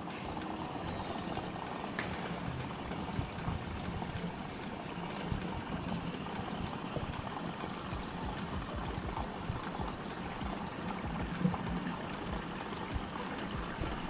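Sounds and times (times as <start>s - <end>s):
aquarium water trickling: 0.0s - 14.0s.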